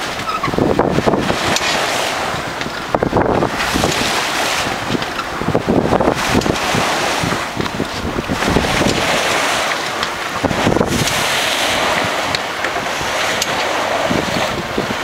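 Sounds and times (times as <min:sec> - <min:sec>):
water splashing along boat bow: 0:00.0 - 0:15.0
wind buffeting microphone: 0:00.0 - 0:15.0.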